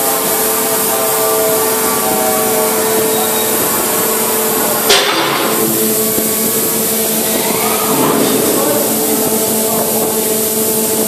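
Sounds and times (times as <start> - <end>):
machinery droning and whining: 0.0 - 11.0.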